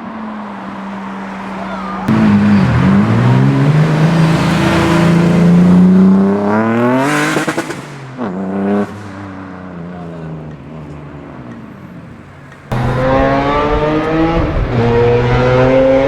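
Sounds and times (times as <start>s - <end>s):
car engine accelerating hard: 0.0s - 11.4s, 12.7s - 16.0s.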